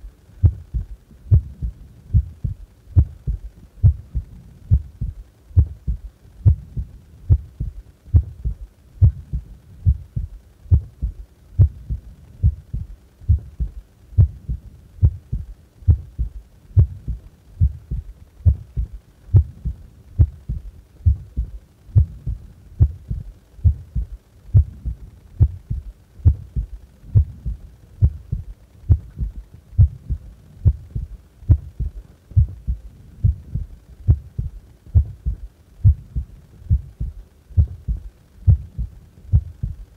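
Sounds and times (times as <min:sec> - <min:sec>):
heart beating: 0:00.4 - 0:39.9.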